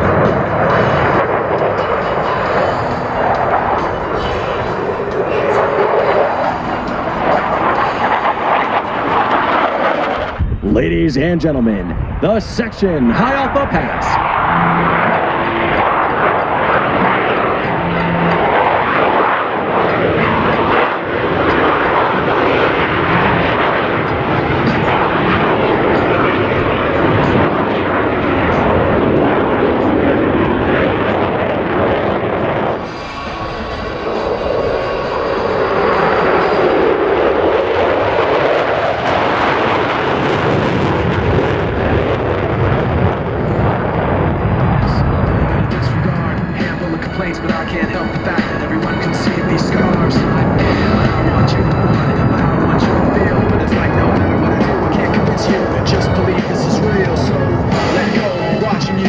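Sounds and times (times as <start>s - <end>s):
jet engines roaring by: 0.0s - 59.0s.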